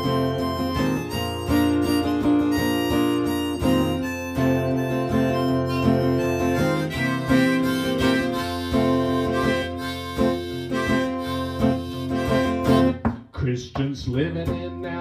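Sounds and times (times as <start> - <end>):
harmonica playing: 0.0 - 13.0
strummed acoustic guitar: 0.0 - 15.0.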